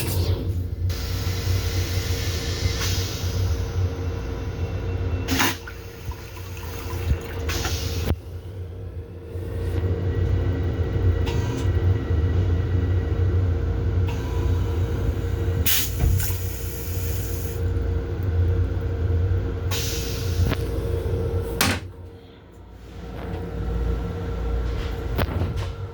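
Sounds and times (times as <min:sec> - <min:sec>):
train low rumble and hum: 0:00.0 - 0:25.9.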